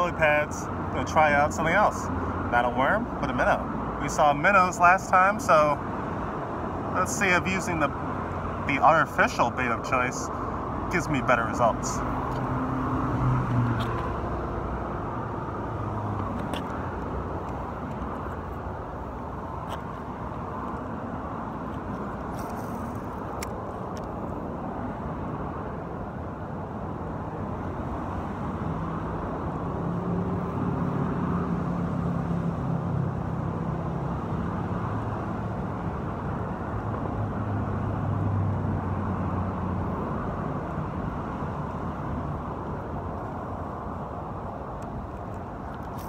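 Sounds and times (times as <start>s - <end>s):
heavy vehicles humming past: 0.0s - 46.0s
road traffic hiss: 0.0s - 46.0s.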